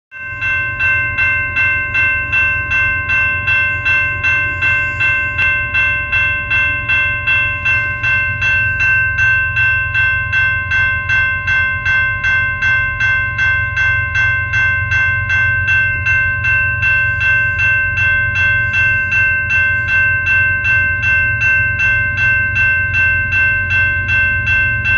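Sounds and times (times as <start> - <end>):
railroad crossing bell ringing: 0.1 - 24.9.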